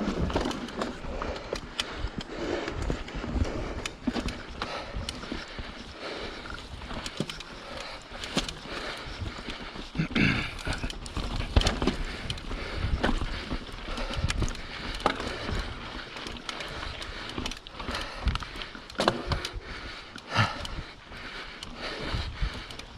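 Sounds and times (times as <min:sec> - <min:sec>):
bike rattling over rocks: 0:00.0 - 0:22.9
bike tyre noise: 0:00.0 - 0:22.9
wind: 0:00.0 - 0:22.9.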